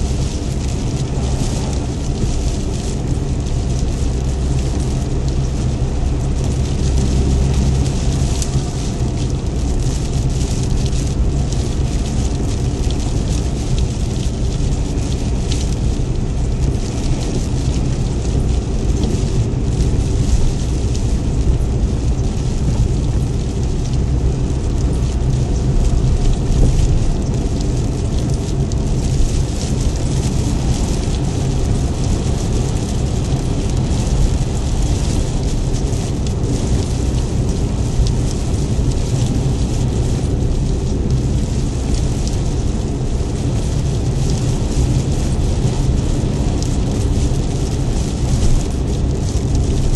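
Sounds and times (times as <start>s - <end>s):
rain and tyre spray hiss: 0.0s - 49.9s
vehicle engine and road rumble: 0.0s - 49.9s.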